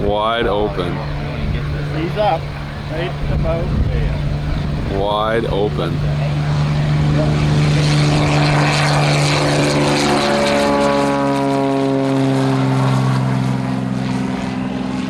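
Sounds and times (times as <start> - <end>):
propeller airplane engine: 0.0 - 15.0.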